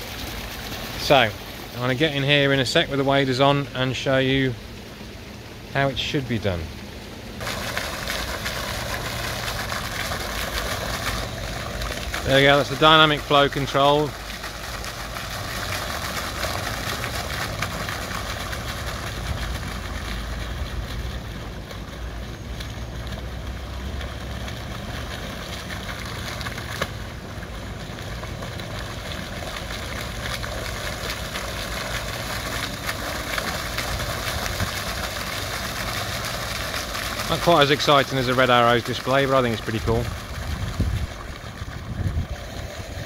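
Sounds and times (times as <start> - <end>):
fountain water splashing: 0.0 - 43.0.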